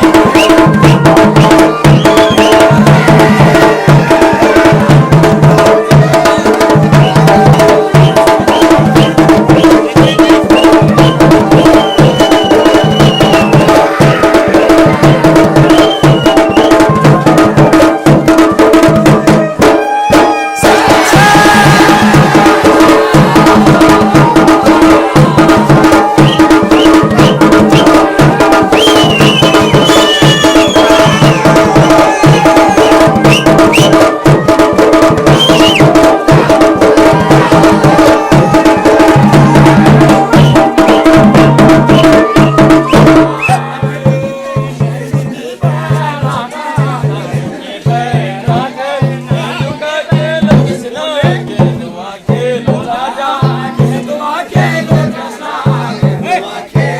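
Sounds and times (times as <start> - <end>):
drums playing fast rhythm: 0.0 - 56.9.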